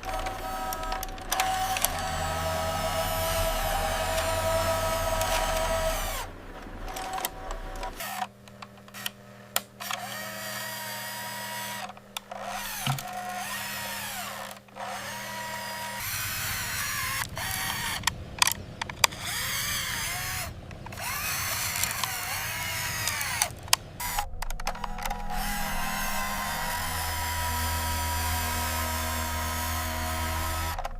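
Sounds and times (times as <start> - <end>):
low hum: 0.0 - 9.8, 11.2 - 30.9
small motor whirring and grinding: 0.0 - 30.9.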